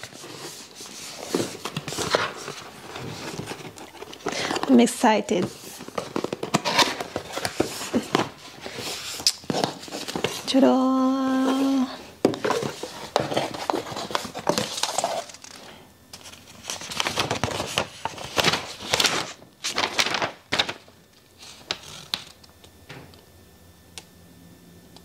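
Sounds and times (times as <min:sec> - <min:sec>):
paper rustling and crinkling: 0:00.0 - 0:10.6, 0:11.2 - 0:22.4.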